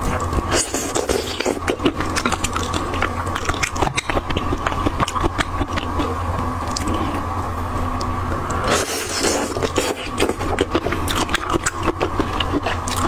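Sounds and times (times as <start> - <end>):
wet chewing and sucking: 0.0 - 7.3, 8.0 - 13.0
steady low hum: 0.0 - 13.0.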